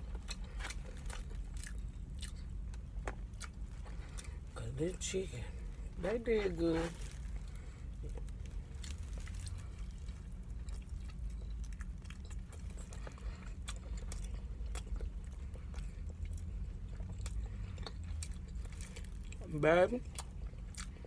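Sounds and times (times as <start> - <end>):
chewing and lip-smacking: 0.0 - 4.5, 6.9 - 21.0
steady low hum: 0.0 - 21.0.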